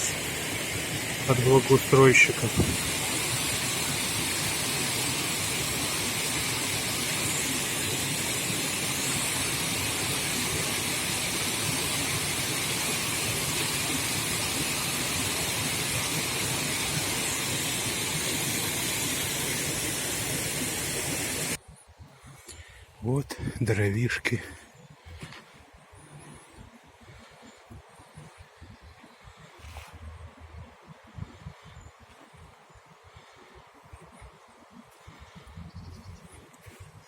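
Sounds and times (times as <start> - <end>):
steady rushing hiss: 0.0 - 37.0.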